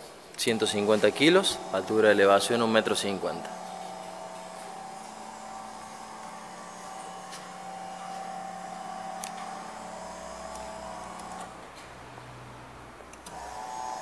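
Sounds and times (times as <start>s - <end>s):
electric lift motor humming: 0.4s - 14.0s
low hum: 0.6s - 13.5s.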